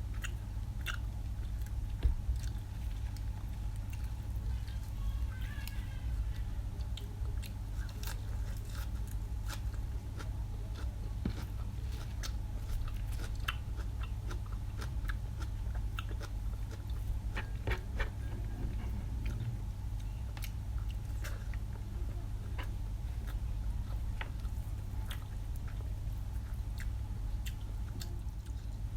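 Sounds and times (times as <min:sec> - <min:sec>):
person chewing and crunching food: 0:00.0 - 0:21.8, 0:22.4 - 0:28.9
steady low hum: 0:00.0 - 0:28.9.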